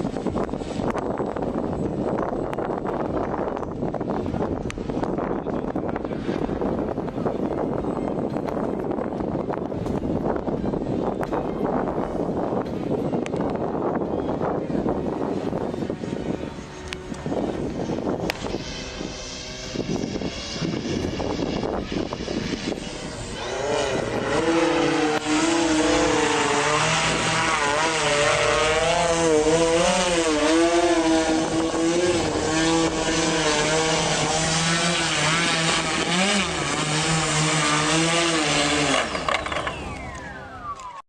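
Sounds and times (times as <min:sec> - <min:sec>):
drone propellers buzzing: 0:00.0 - 0:41.0.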